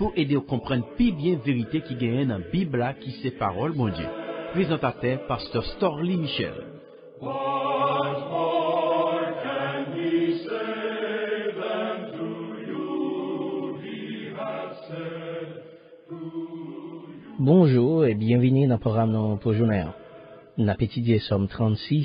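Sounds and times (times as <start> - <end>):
choir singing long notes: 0.0 - 18.0, 19.5 - 20.6.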